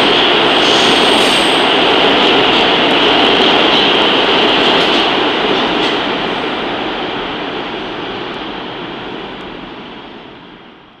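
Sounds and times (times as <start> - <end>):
subway train rail noise: 0.0 - 11.0.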